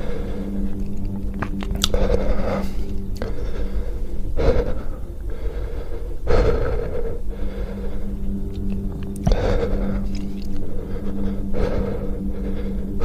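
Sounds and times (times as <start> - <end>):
person gasping breaths: 0.0 - 13.0.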